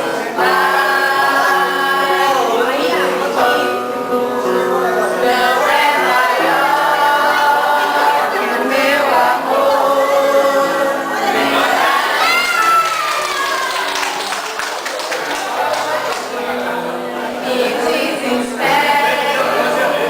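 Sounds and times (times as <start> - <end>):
group singing a song: 0.0 - 12.4, 15.2 - 20.0
musical accompaniment: 0.0 - 20.0.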